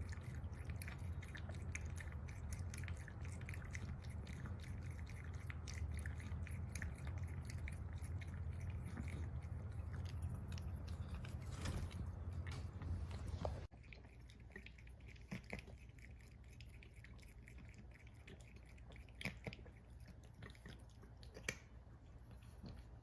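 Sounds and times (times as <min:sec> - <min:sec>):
cat chewing food: 0:00.0 - 0:23.0.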